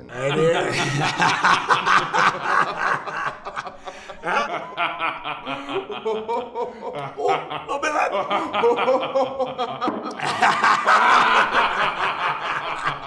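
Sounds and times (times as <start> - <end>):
men laughing: 0.0 - 13.0.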